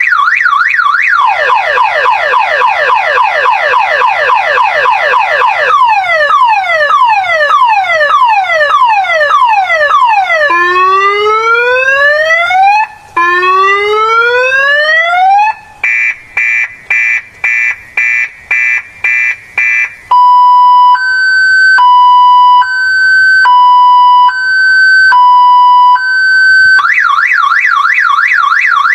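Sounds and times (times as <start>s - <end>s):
car alarm siren: 0.0s - 28.9s.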